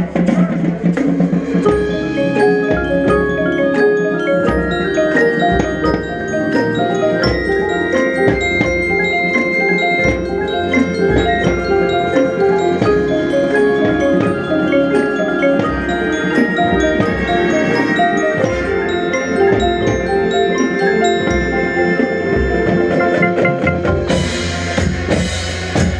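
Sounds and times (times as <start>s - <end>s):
repeated low drum hits: 0.0s - 21.8s, 22.4s - 25.9s
mallet percussion playing fast: 0.0s - 25.9s.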